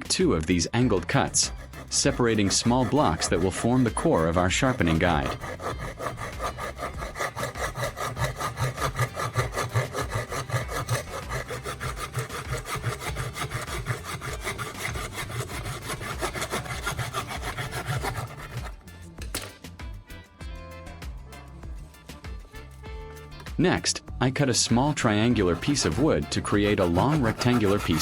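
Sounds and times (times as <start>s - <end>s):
handsaw cutting wood: 0.0s - 18.9s, 24.3s - 28.0s.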